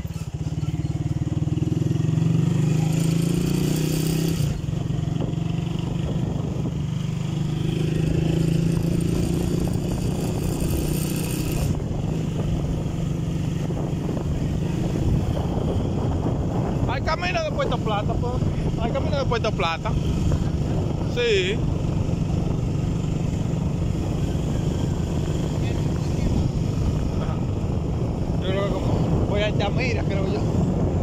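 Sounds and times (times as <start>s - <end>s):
small motorcycle engine running: 0.0s - 31.0s.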